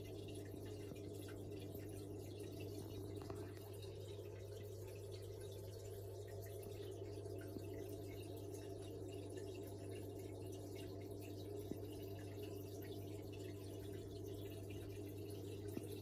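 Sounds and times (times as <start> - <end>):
aquarium filter hum: 0.0 - 16.0
bubbles crackling: 0.0 - 16.0
trickling water: 0.0 - 16.0.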